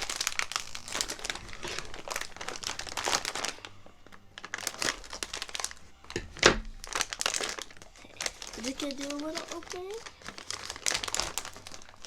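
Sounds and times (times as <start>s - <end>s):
snack bag crinkling: 0.0s - 12.0s.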